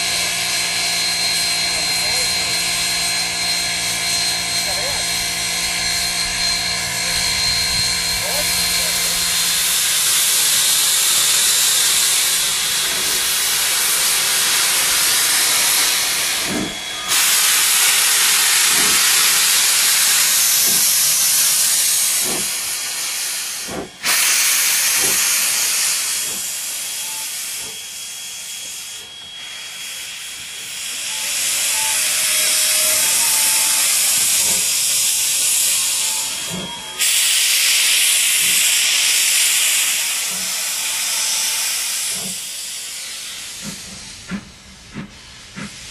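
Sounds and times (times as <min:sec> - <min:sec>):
steam hissing from locomotive: 0:00.0 - 0:45.9.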